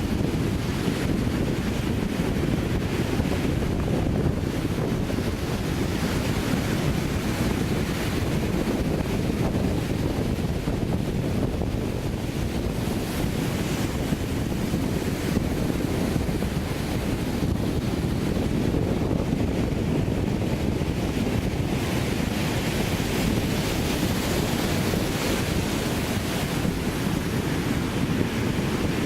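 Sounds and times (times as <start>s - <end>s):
sea waves breaking on beach: 0.0s - 29.0s
wind buffeting microphone: 0.0s - 29.0s.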